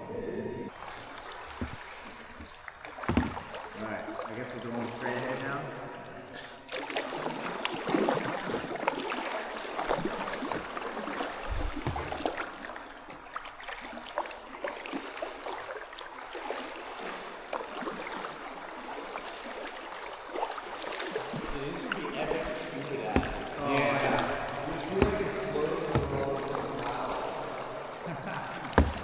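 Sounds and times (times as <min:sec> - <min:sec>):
paddle splashing in water: 0:00.7 - 0:29.0
paddle knocks: 0:00.9 - 0:05.0, 0:06.8 - 0:29.0.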